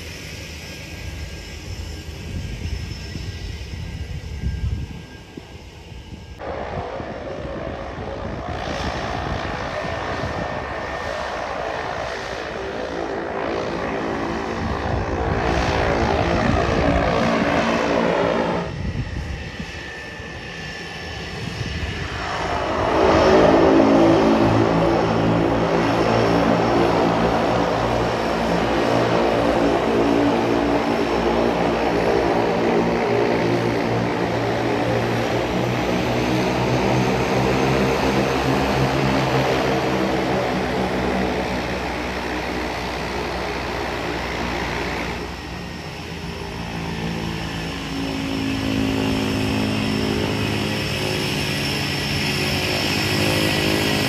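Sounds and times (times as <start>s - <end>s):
propeller plane taxiing: 0.0s - 54.0s.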